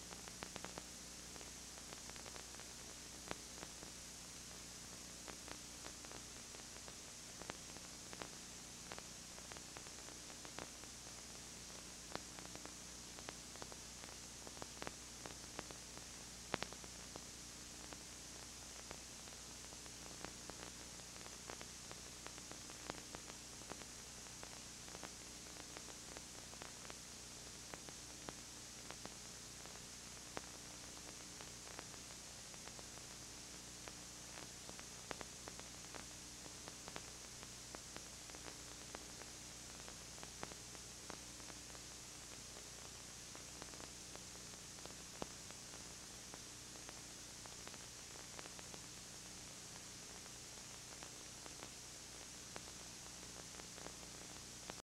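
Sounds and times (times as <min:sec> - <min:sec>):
videotape hiss and hum: 0:00.0 - 0:54.8
faint clicks and crackles: 0:00.1 - 0:54.8.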